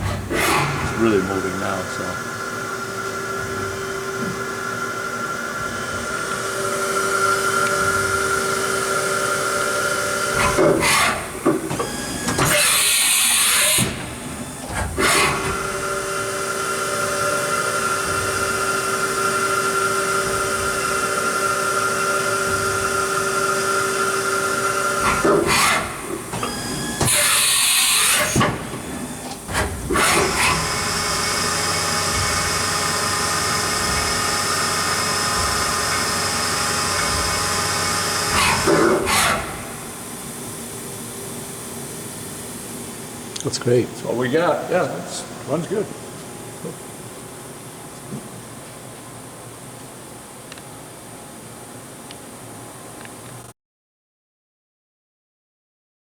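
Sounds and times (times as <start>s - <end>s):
machine spindle whine: 0.0s - 52.8s.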